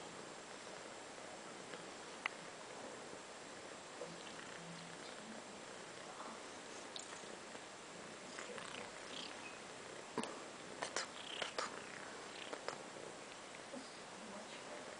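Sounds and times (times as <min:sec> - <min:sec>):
cat purring: 0:02.3 - 0:14.5.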